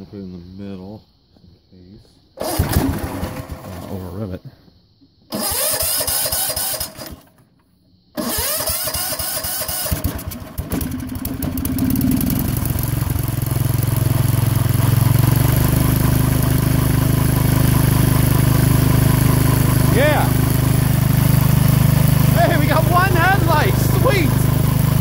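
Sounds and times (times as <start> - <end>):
lawn tractor engine running: 2.4 - 3.9, 5.3 - 7.4, 8.2 - 25.0
starter cranking engine: 2.4 - 4.0, 5.3 - 7.4, 8.2 - 25.0.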